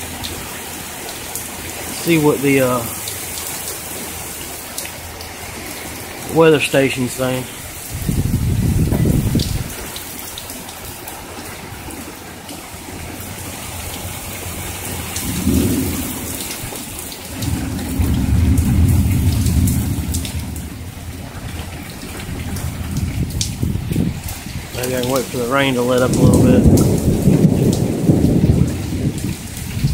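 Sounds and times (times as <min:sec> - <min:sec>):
thunder rumbling: 0:00.0 - 0:10.0, 0:12.9 - 0:29.9
heavy rain pouring: 0:00.0 - 0:29.9
raindrops ticking: 0:00.0 - 0:29.9.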